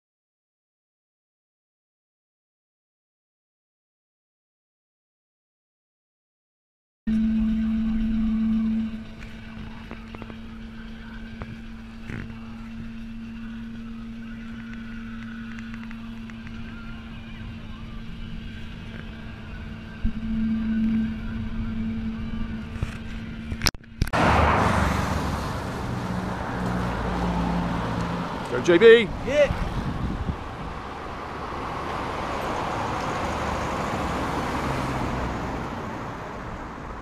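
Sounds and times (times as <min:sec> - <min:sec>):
passing traffic: 0:07.1 - 0:37.0
road noise: 0:07.1 - 0:37.0
van engine drone: 0:07.1 - 0:37.0.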